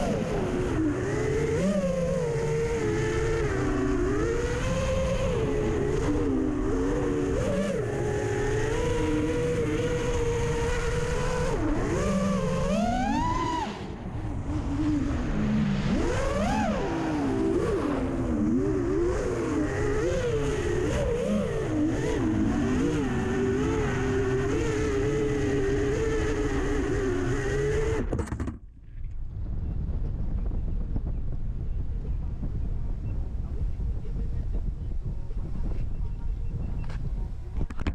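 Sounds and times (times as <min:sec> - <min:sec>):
drone motors whining: 0:00.0 - 0:31.1
wind buffeting microphone: 0:00.0 - 0:37.9.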